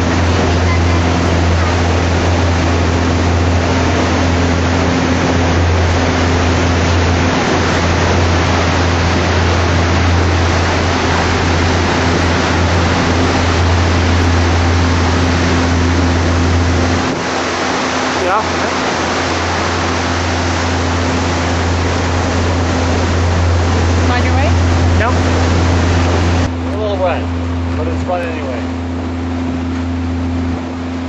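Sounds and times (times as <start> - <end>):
boat engine drone: 0.0 - 31.0
wind and water rushing: 0.0 - 31.0.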